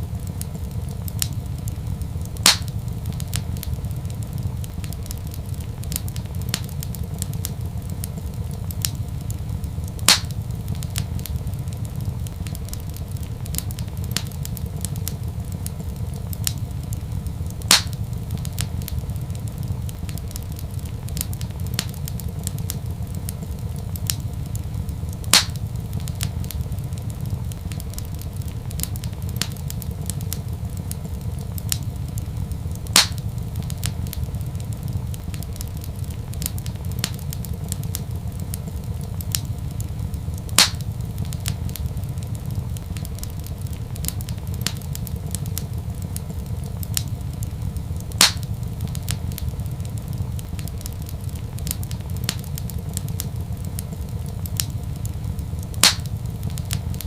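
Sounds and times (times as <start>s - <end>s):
low fire rumble: 0.0s - 57.0s
sharp fire pops: 0.0s - 57.0s
wood fire crackling: 0.0s - 57.0s.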